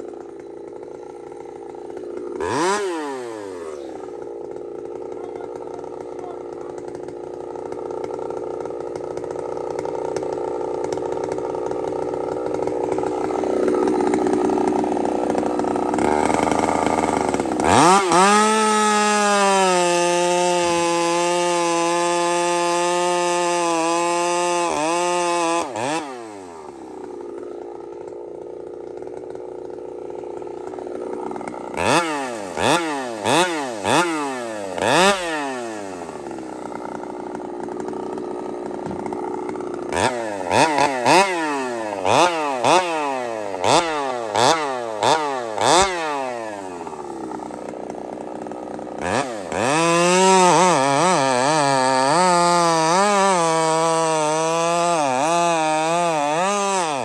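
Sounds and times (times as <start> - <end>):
chainsaw cutting and revving: 0.0 - 57.0.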